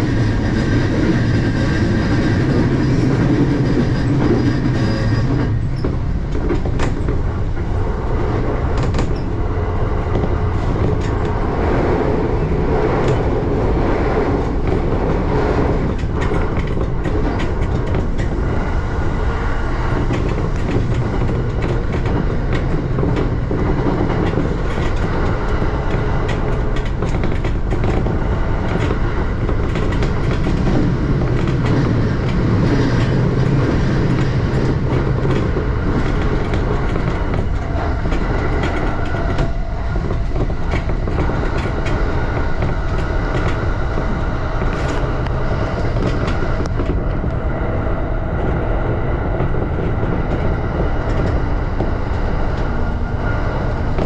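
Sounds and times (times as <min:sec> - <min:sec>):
rumble of train wheels on rail: 0:00.0 - 0:54.0.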